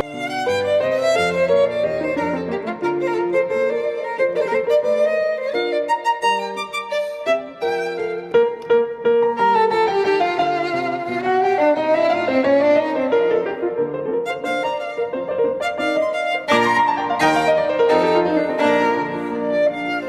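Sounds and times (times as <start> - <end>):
piano accompaniment: 0.0 - 20.0
violin melody: 0.0 - 20.0.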